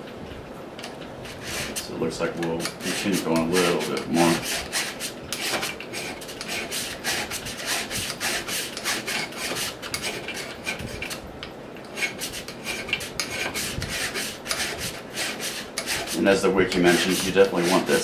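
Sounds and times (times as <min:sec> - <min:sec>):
file rasping on metal shaft: 0:01.2 - 0:11.2, 0:11.8 - 0:18.0.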